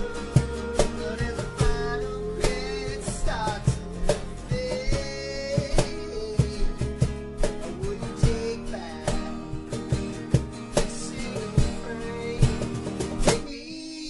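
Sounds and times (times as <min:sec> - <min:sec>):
person singing: 0:00.0 - 0:09.8, 0:10.8 - 0:14.0
strummed acoustic guitars: 0:00.0 - 0:14.0.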